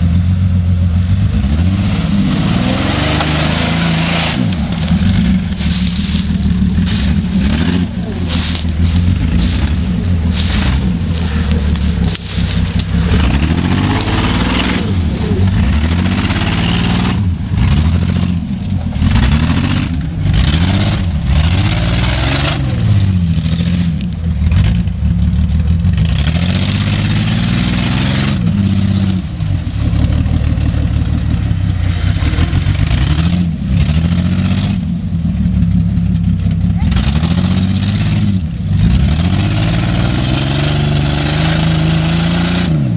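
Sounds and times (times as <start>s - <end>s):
vehicle engine revving: 0.0s - 42.9s.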